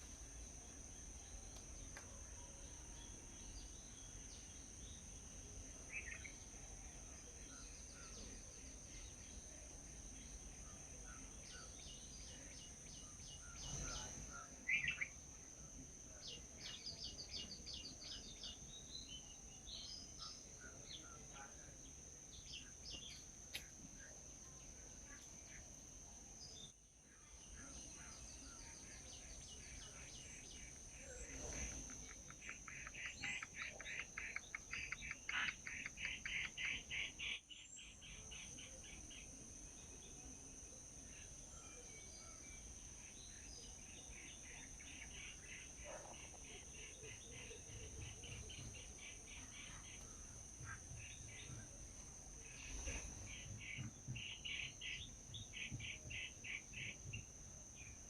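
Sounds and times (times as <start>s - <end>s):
small birds chirping: 0.0s - 15.4s, 16.1s - 25.8s, 26.4s - 40.2s, 40.9s - 58.0s
faint high-pitched hum: 0.0s - 58.0s.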